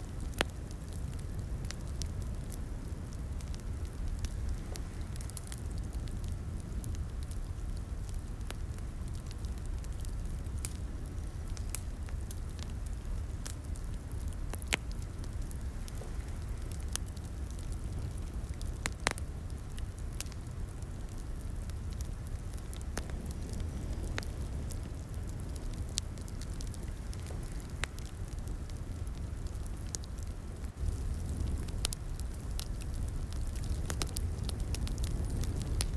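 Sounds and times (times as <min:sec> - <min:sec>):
low rumble of flames: 0:00.0 - 0:35.9
wood fire crackling: 0:00.0 - 0:35.9
fire sharp pops: 0:00.1 - 0:07.4, 0:08.0 - 0:35.9.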